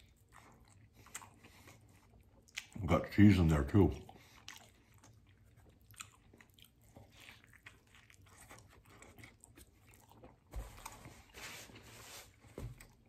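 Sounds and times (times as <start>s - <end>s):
man chewing food: 0.0s - 13.0s.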